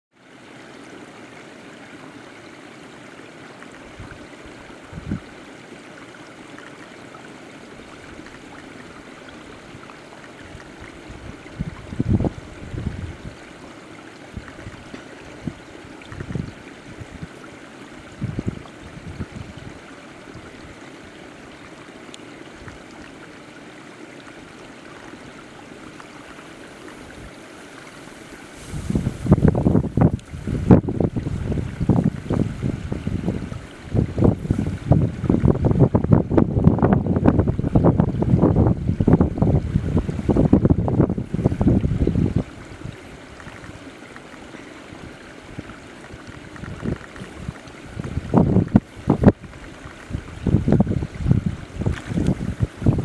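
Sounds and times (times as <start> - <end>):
water running and trickling: 0.2 - 53.0.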